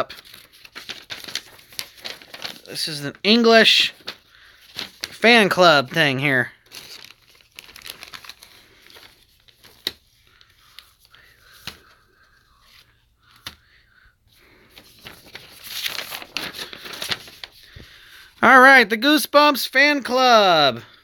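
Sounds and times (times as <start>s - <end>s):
paper rustling and crinkling: 0.0s - 13.7s, 14.3s - 18.4s.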